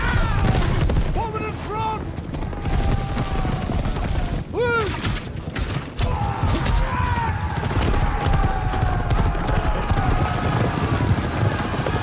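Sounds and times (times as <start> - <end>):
horses galloping on sand: 0.0 - 4.5, 6.9 - 12.0.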